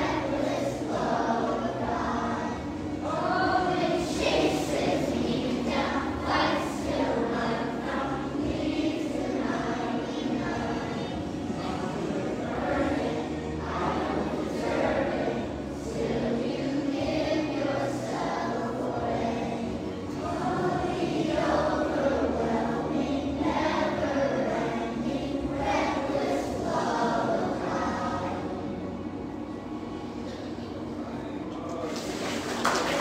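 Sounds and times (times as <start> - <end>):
children singing together: 0.0 - 30.9.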